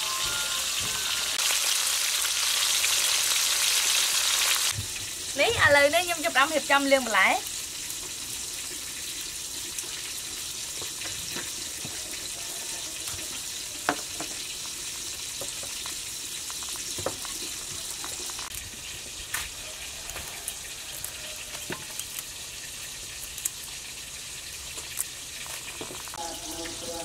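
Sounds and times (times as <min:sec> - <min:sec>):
fish sizzling in hot oil: 0:00.0 - 0:27.0
oil popping and crackling: 0:01.3 - 0:27.0.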